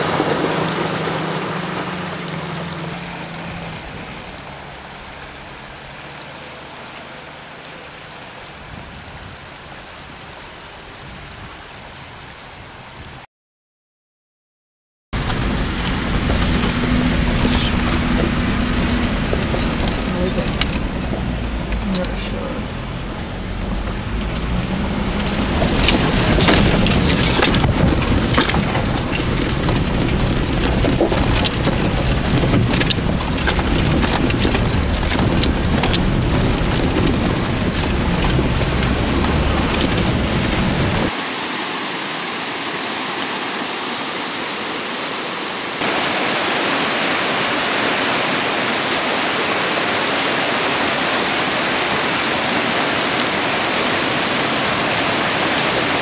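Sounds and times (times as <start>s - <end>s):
water splashing: 0.0s - 12.9s, 15.2s - 56.0s
engine rumble: 0.0s - 13.0s, 15.2s - 56.0s
river rushing: 0.0s - 13.2s, 15.2s - 56.0s.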